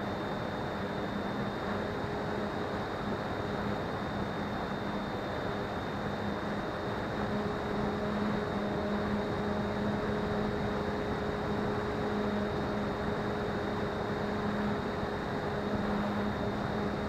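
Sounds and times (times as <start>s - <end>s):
model plane motor hum: 1.6s - 17.0s.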